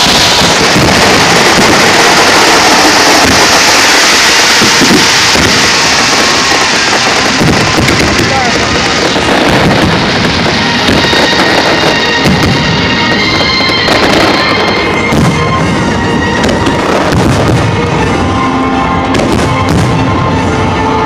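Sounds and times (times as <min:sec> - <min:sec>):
fireworks bangs: 0:00.0 - 0:21.0
loud music: 0:00.0 - 0:21.0.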